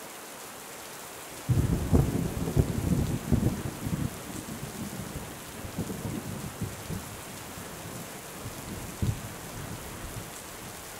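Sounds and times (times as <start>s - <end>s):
steady rain: 0.0s - 10.9s
thunder rumbling: 1.5s - 10.3s.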